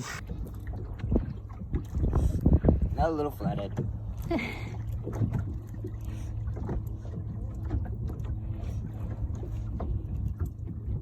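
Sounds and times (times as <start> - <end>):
water slapping boat hull: 0.0 - 11.0.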